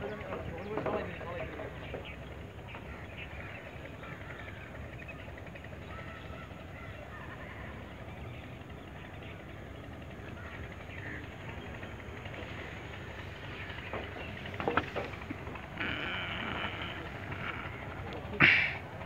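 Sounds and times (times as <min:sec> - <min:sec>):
steady low rumble: 0:01.4 - 0:19.0.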